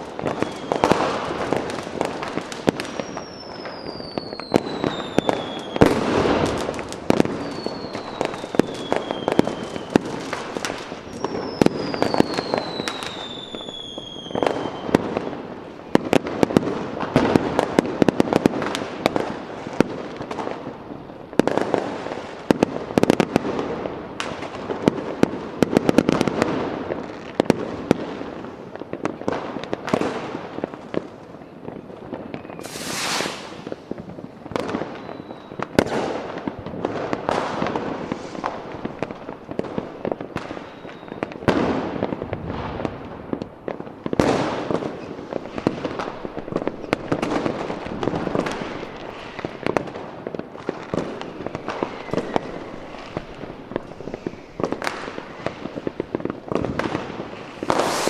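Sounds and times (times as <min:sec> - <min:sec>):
fireworks bangs and crackles: 0:00.0 - 0:58.0
whistling fireworks: 0:00.0 - 0:58.0.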